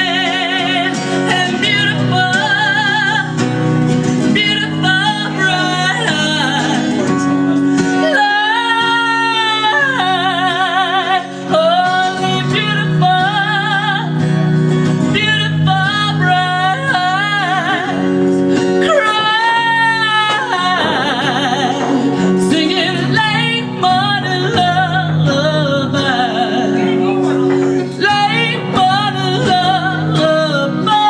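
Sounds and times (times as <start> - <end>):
guitar accompaniment: 0.0 - 31.0.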